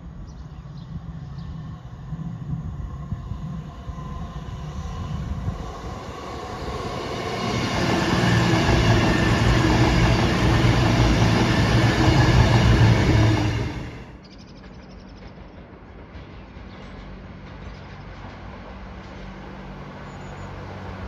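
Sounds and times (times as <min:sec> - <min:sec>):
diesel train engines droning: 0:00.0 - 0:21.0
wheels rumbling on rails: 0:00.0 - 0:21.0.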